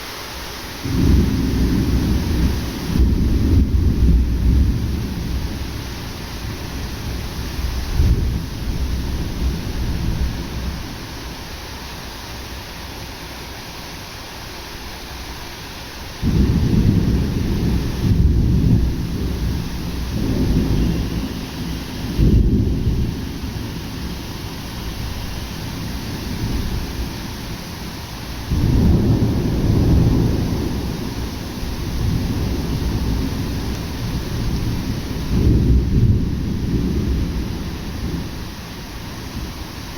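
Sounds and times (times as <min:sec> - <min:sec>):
rain falling: 0:00.0 - 0:39.9
thunder rumbling: 0:00.8 - 0:12.6, 0:16.2 - 0:39.9.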